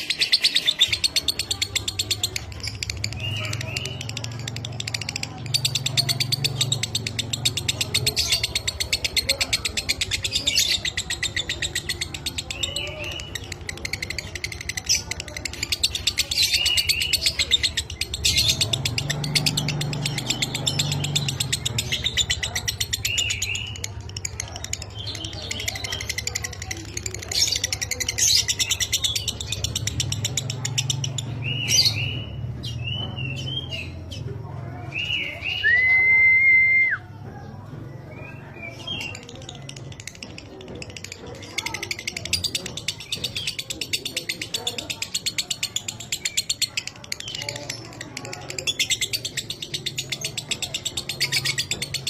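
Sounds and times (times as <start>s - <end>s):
bird chattering: 0.0s - 35.6s, 38.0s - 52.0s.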